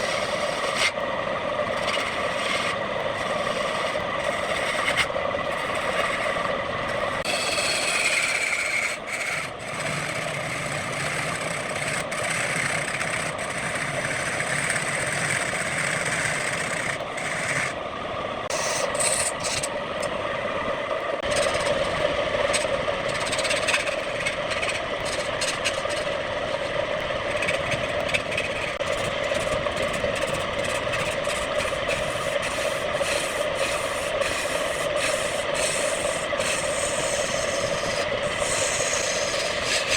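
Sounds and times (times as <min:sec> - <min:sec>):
tool scraping spinning wood: 0:00.0 - 0:01.0, 0:01.6 - 0:17.8, 0:18.5 - 0:20.2, 0:21.2 - 0:39.9
wood lathe motor hum: 0:00.0 - 0:17.8, 0:18.5 - 0:20.2, 0:21.2 - 0:39.9.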